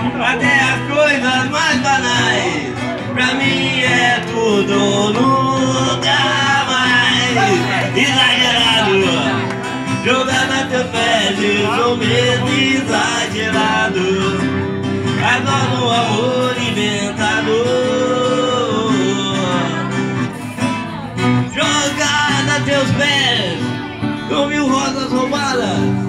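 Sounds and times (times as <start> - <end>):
man singing into a microphone: 0.0 - 20.6, 21.2 - 26.0
acoustic guitar: 0.0 - 26.0.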